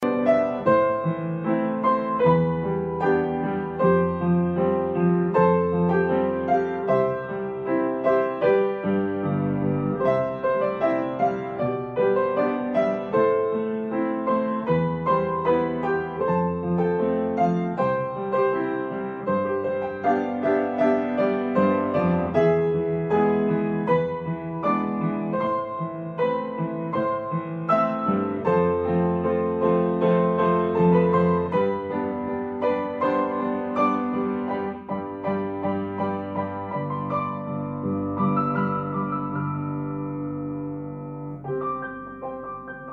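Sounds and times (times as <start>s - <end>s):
slow gentle piano music: 0.0s - 42.9s.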